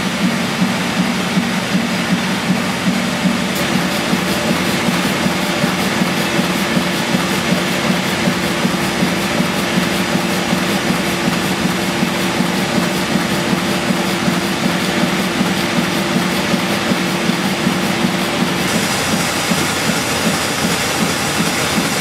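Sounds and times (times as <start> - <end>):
steam engine running: 0.0 - 22.0.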